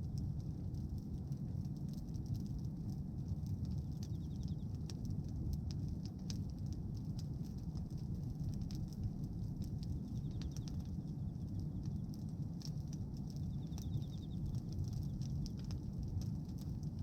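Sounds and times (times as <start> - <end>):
bonfire crackling and popping: 0.0 - 17.0
steady low rumble: 0.0 - 17.0.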